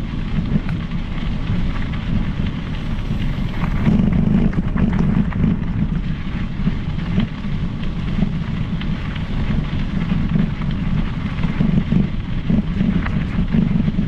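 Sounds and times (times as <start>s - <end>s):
bike clicks and rattles: 0.0s - 14.0s
low rumble: 0.0s - 14.0s
wind buffeting microphone: 0.0s - 14.0s.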